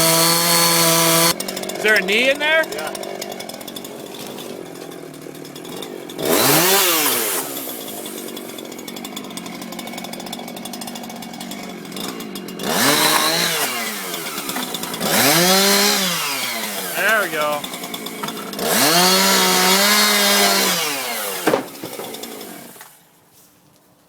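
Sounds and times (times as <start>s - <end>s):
chainsaw idling: 0.0s - 23.0s
chainsaw revving: 0.0s - 23.0s.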